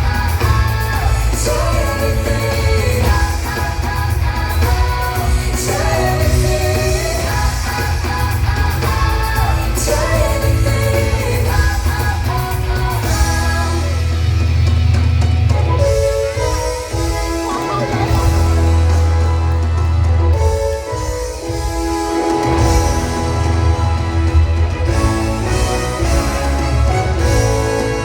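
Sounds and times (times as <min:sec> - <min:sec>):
song with singing over heavy bass: 0:00.0 - 0:28.0.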